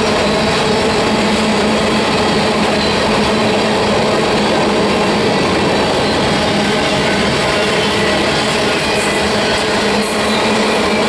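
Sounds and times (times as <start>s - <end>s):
steel wheels rolling on rail: 0.0s - 11.0s.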